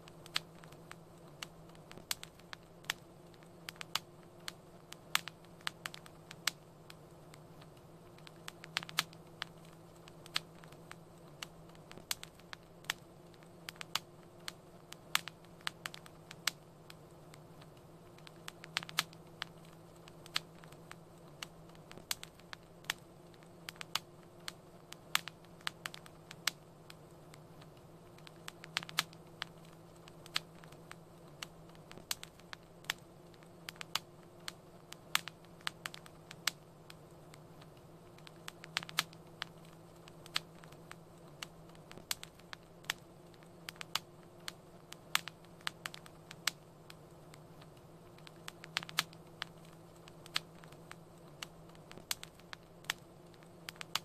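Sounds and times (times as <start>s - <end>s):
faint hum: 0.0s - 54.0s
low hiss: 0.0s - 54.0s
wood fire crackling: 0.0s - 54.0s.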